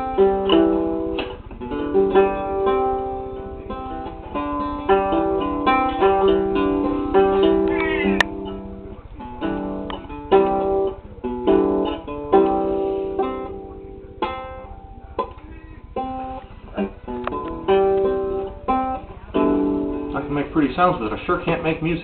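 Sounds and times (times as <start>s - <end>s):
lyre strummed and plucked: 0.0s - 22.0s.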